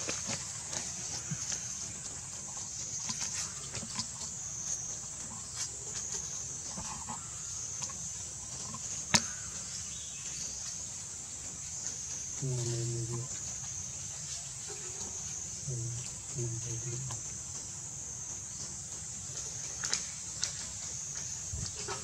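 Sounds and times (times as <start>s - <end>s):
steady high hiss: 0.0s - 22.0s.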